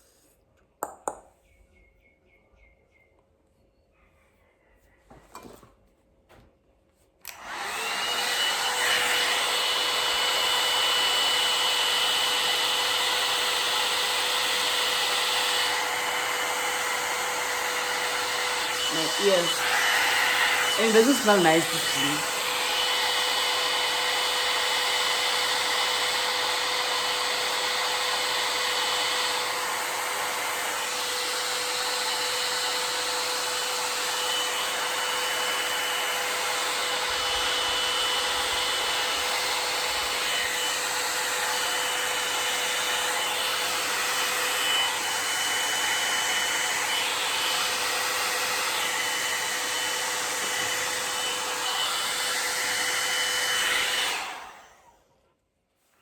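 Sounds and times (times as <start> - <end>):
hair dryer blowing: 7.2 - 55.2.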